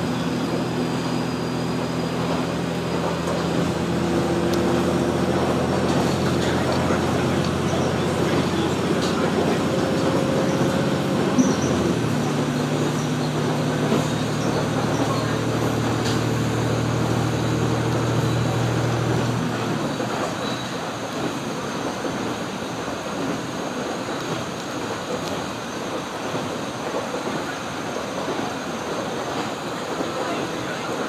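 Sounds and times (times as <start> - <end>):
diesel engine: 0.0 - 31.0
wheels rumbling on rail: 0.0 - 31.0.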